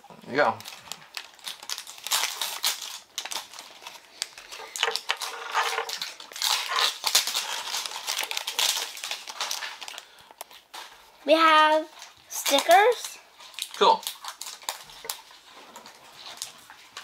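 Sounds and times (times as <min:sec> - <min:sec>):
plastic packaging crinkling: 0:00.3 - 0:17.0.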